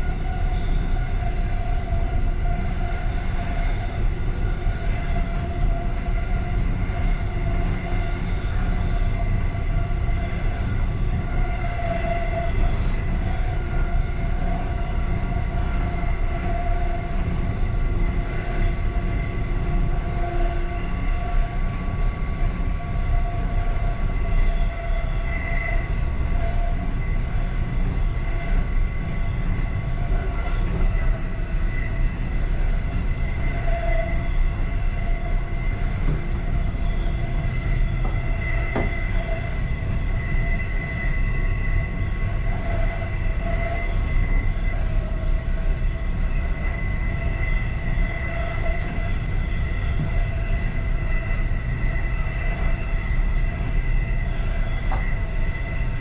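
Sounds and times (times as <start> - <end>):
high steady whine: 0.0 - 56.0
train rolling rumble: 0.0 - 56.0.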